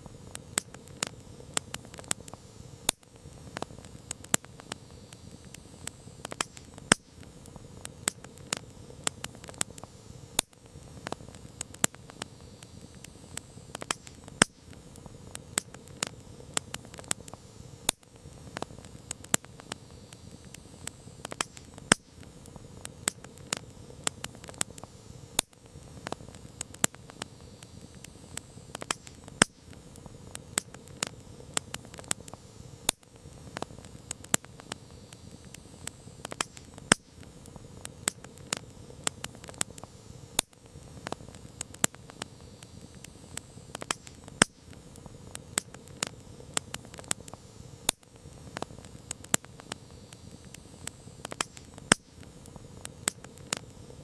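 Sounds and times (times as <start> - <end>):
campfire crackling and popping: 0.0 - 54.0
hiss of burning: 0.0 - 54.0.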